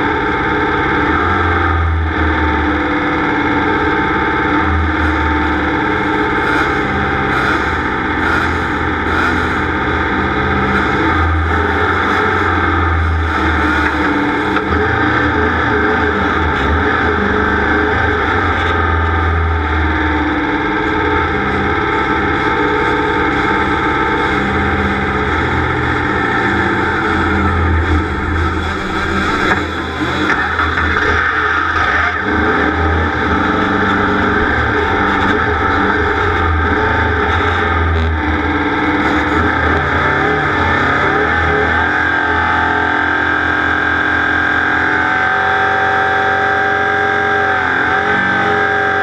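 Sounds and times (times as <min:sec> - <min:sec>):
bass line: 0:00.0 - 0:49.0
distorted electric guitar: 0:00.0 - 0:49.0.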